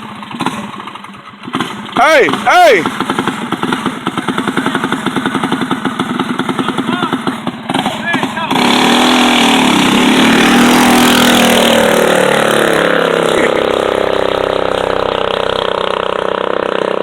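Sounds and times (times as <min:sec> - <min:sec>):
mini bike engines at full throttle: 0:00.0 - 0:17.0.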